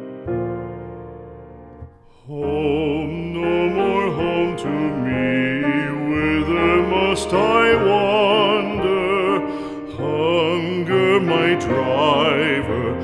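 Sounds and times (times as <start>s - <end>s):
keyboard accompaniment: 0.0s - 13.0s
sustained piano chord: 0.0s - 13.0s
person singing with vibrato: 2.1s - 13.0s.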